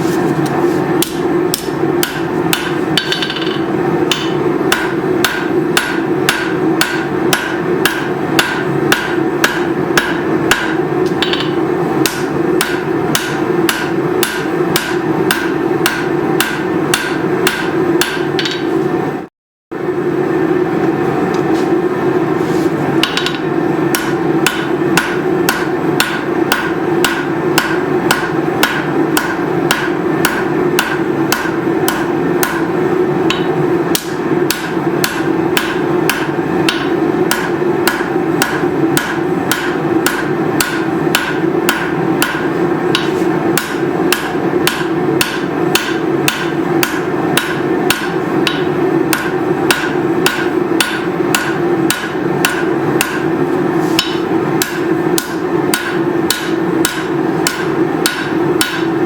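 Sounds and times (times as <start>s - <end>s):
steady hum: 0.0s - 59.0s
hammer ringing on steel: 1.0s - 18.7s, 23.0s - 32.7s, 33.3s - 53.3s, 54.0s - 59.0s.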